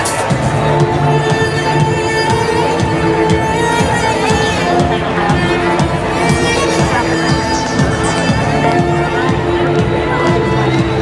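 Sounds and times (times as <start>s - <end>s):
belly dance music with drum: 0.0s - 11.0s.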